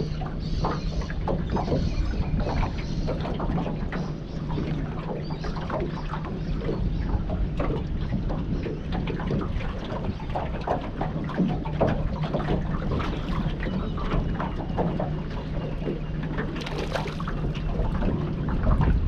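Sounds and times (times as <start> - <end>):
water lapping and splashing: 0.0 - 19.0
wind on microphone: 0.8 - 19.0.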